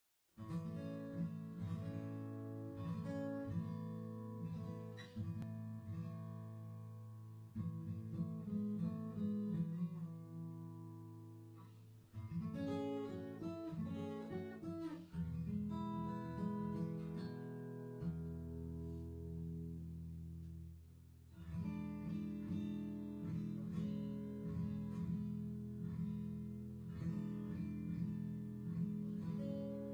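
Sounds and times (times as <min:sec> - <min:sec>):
acoustic guitar playing: 0:00.4 - 0:29.9.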